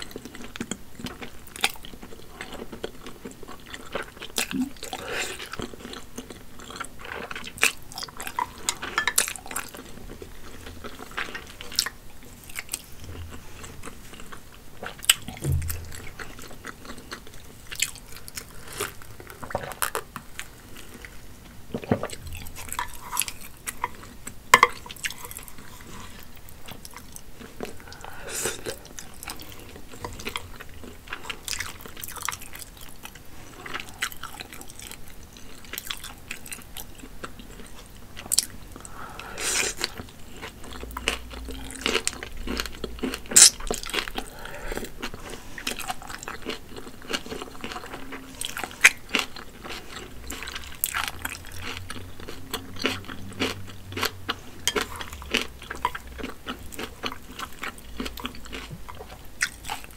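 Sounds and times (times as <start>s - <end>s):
wet chewing: 0.0s - 21.2s, 21.8s - 59.9s.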